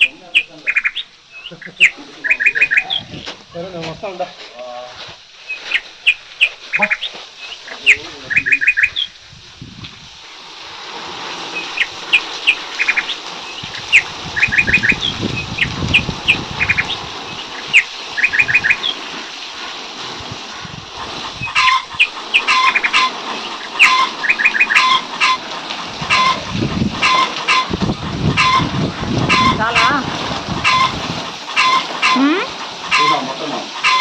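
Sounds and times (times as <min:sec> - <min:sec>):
small birds chirping: 0:00.0 - 0:03.7, 0:05.2 - 0:09.2, 0:11.5 - 0:34.0.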